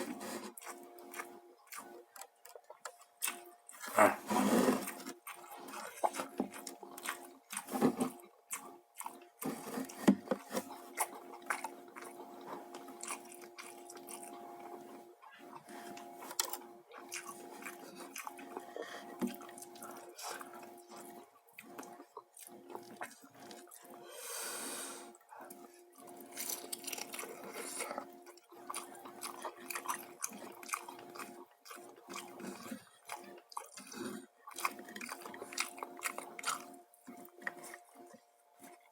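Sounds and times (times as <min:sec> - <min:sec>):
wet chewing and smacking: 0:00.0 - 0:24.2, 0:25.1 - 0:38.9
steady low hum: 0:00.0 - 0:38.9.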